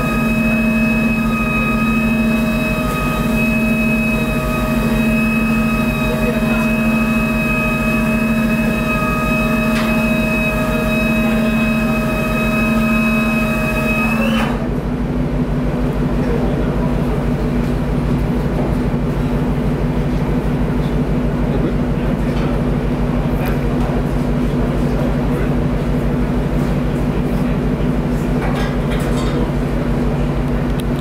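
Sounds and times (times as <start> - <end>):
low pulsing machinery hum: 0.0 - 31.0
machinery whine: 0.0 - 31.0.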